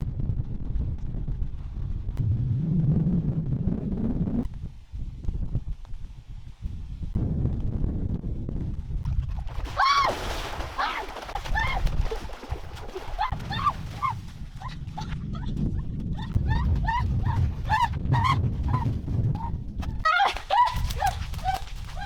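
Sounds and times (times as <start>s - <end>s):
low rumble: 0.0s - 9.6s, 11.9s - 22.0s.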